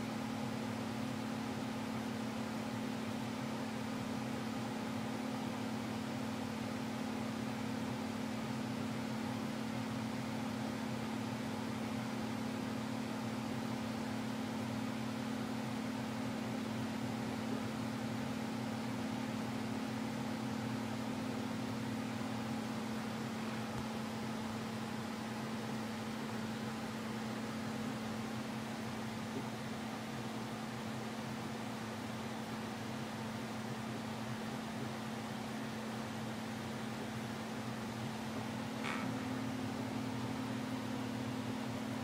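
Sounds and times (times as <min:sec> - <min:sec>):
box fan running: 0:00.0 - 0:42.0.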